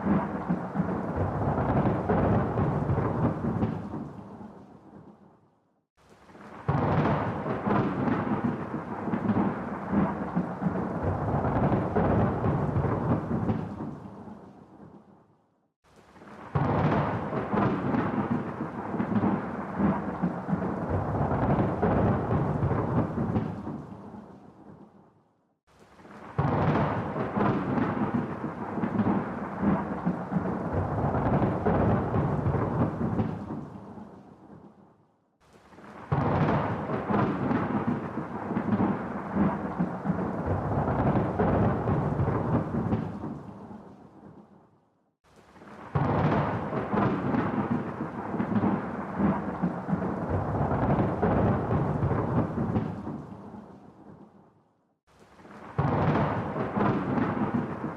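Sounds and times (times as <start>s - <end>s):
thunder rolling: 0.0s - 5.0s, 6.5s - 14.9s, 16.2s - 24.8s, 26.0s - 33.9s, 35.7s - 44.4s, 45.6s - 54.2s, 55.4s - 57.9s.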